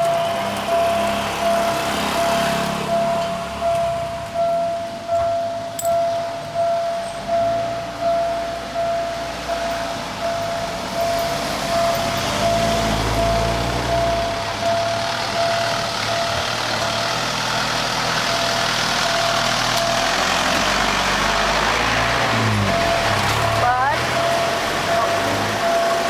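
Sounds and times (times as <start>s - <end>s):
level-crossing warning bell: 0.0s - 26.0s
road noise: 0.0s - 26.0s
vehicle engines running: 0.0s - 26.0s.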